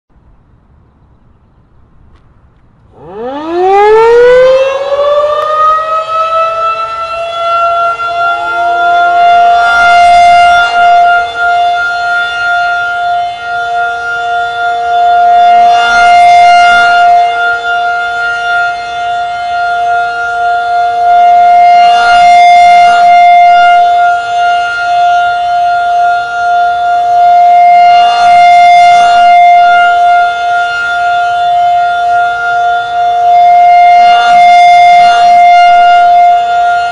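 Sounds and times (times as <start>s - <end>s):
electromechanical siren wailing: 2.8s - 36.9s.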